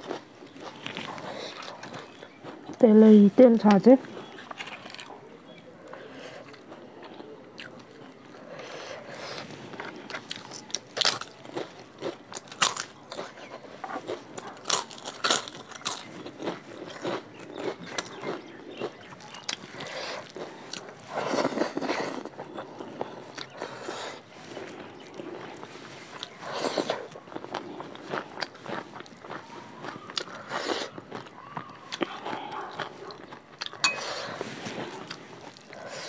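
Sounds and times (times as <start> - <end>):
crunching and chewing food: 0.0 - 36.0.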